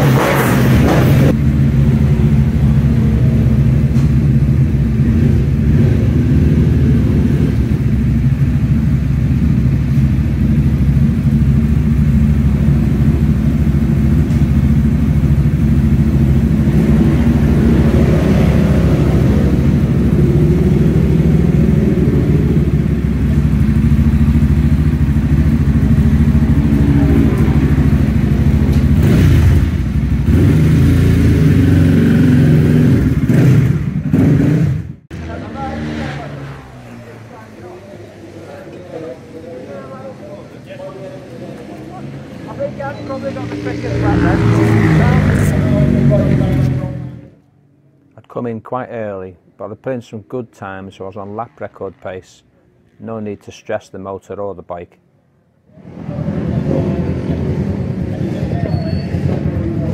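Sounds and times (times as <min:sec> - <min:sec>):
motorcycle engines idling: 0:00.0 - 0:34.2, 0:35.1 - 0:48.2, 0:55.9 - 0:59.9.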